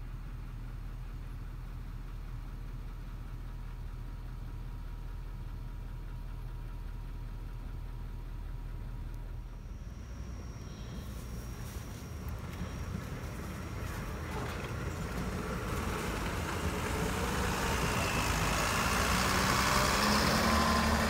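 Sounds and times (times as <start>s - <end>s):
engine idling: 0.0s - 21.0s
faint steady hum: 0.0s - 21.0s.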